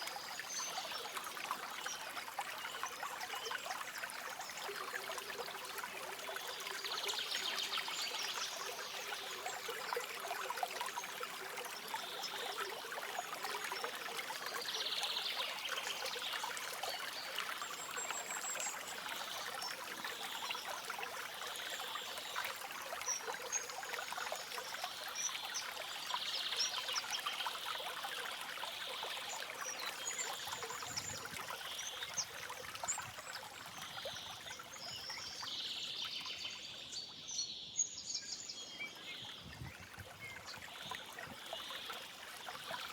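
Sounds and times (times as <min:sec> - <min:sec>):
stream flowing: 0:00.0 - 0:42.9.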